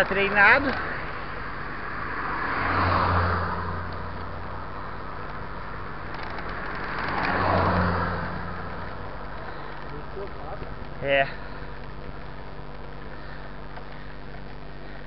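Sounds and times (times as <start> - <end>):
cars passing: 0.0 - 15.0
road and wind noise: 0.0 - 15.0.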